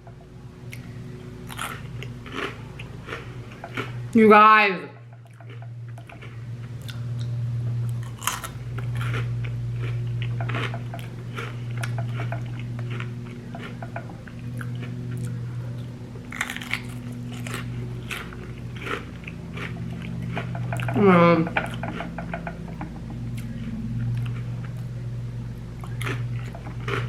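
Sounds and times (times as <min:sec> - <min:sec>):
steady low hum: 0:00.0 - 0:27.0
crunching and chewing chips: 0:00.1 - 0:04.2, 0:05.0 - 0:27.0.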